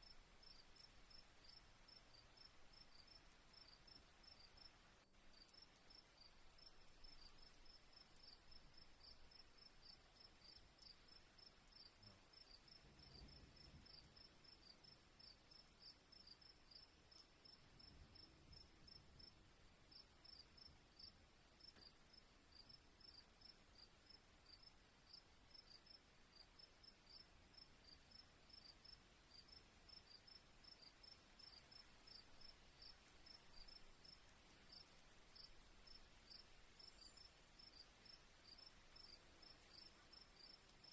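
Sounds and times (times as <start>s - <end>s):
crickets chirping: 0.0s - 40.9s
high insect hiss: 0.0s - 40.9s.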